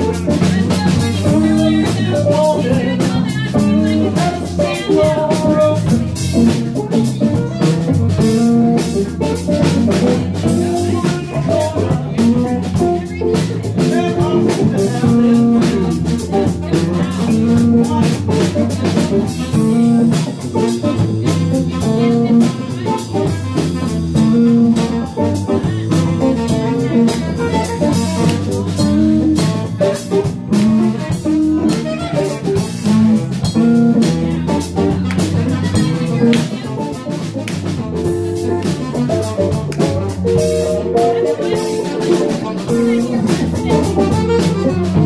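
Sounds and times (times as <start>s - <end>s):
drum kit: 0.0s - 45.0s
live band playing: 0.0s - 45.0s.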